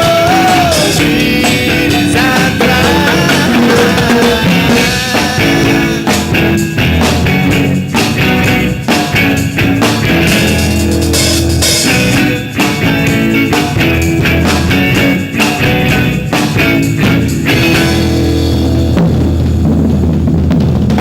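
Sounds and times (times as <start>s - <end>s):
bass: 0.0s - 21.0s
driving drum kit: 0.0s - 21.0s
electric guitar: 0.0s - 21.0s
live rock band playing: 0.0s - 21.0s.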